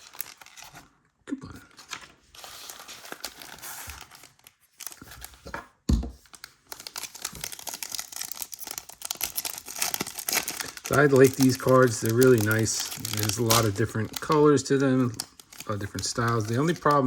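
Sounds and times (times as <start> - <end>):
foil wrappers crinkling and tearing: 0.0 - 0.9, 1.9 - 5.4, 6.2 - 17.0.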